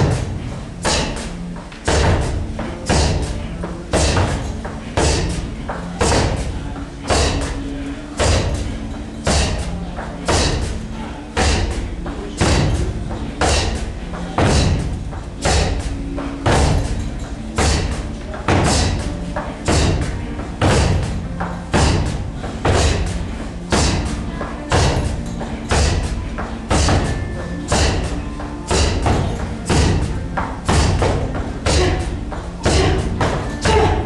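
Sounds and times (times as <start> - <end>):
heavy thuds with echo: 0.0 - 34.0.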